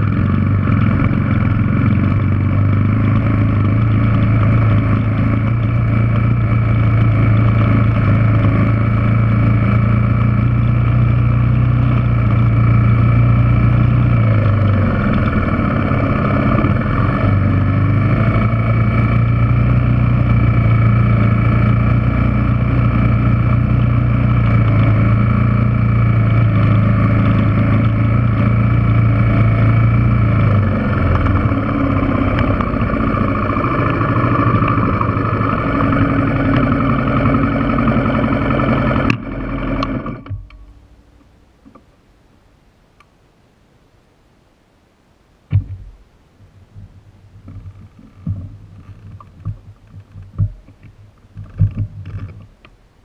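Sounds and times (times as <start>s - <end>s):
motorcycle engine running: 0.0s - 41.9s, 46.6s - 52.8s.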